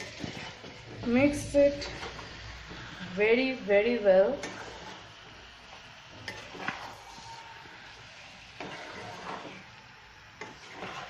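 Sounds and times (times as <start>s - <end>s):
spatula scraping metal pan: 0.0s - 2.9s, 3.8s - 5.3s, 6.1s - 11.0s
spatula stirring thick sauce: 0.0s - 3.0s, 3.9s - 11.0s.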